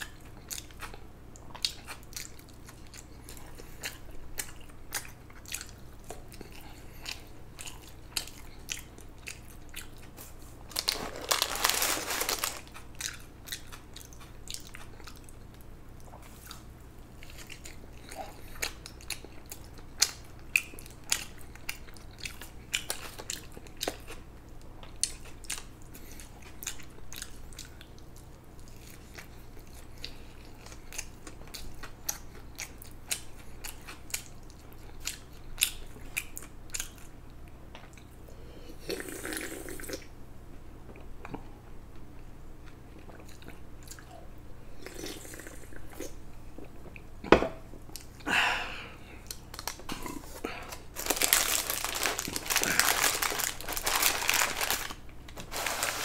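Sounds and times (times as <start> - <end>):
person chewing food: 0.0 - 40.0, 42.2 - 44.2, 44.8 - 48.3, 49.1 - 56.0.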